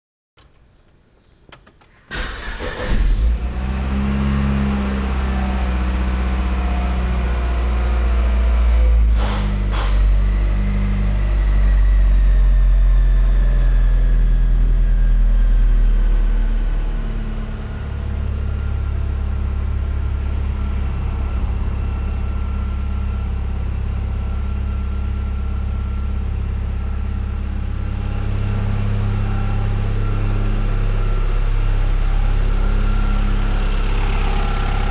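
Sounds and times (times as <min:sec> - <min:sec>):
car engine starting and idling: 0:00.4 - 0:34.9.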